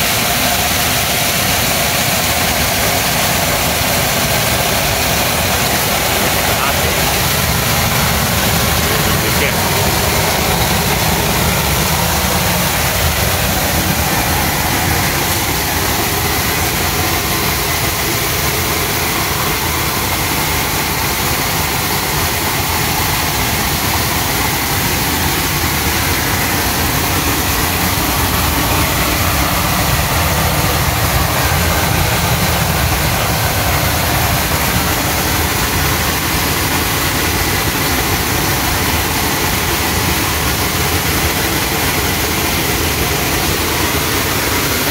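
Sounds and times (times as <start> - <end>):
sorting machine running: 0.0 - 44.9.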